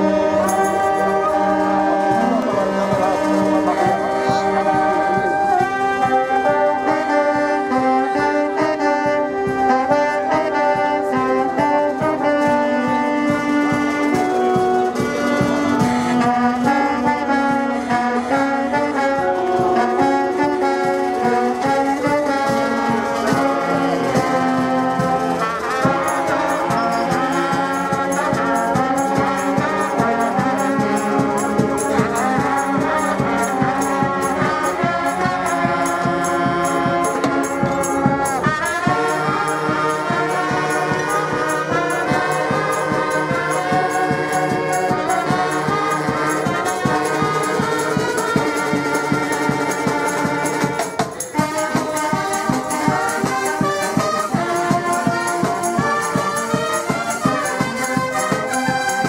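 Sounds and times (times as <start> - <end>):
brass band playing lively tune: 0.0 - 59.0
drum steady beat: 0.0 - 59.0.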